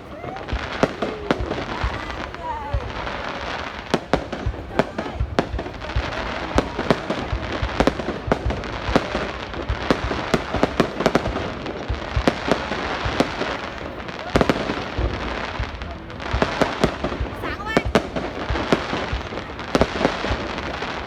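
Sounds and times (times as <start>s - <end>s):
distant fireworks rumble: 0.0s - 21.0s
fireworks bangs and pops: 0.0s - 21.0s.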